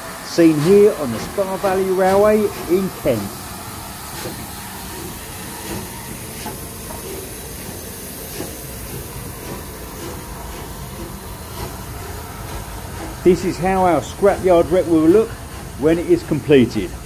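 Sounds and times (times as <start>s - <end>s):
locomotive wheels knocking: 0.0s - 17.0s
steam hissing: 0.0s - 17.0s.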